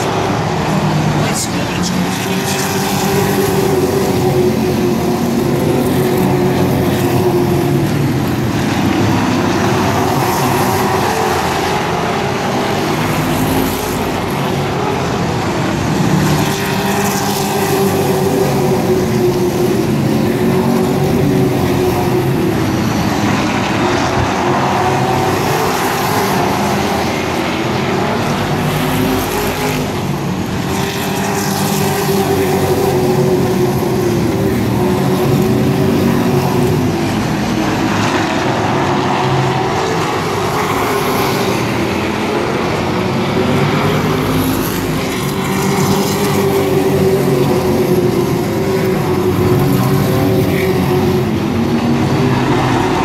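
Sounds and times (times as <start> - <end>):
race truck engines droning: 0.0 - 53.0.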